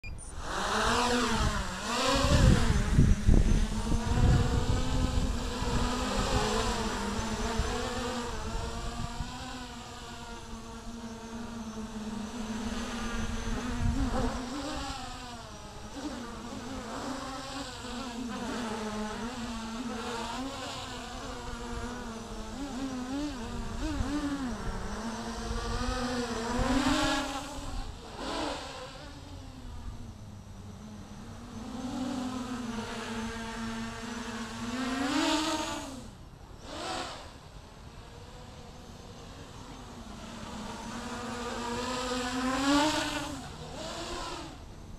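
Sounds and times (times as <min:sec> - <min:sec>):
quadcopter motors buzzing: 0:00.0 - 0:44.9.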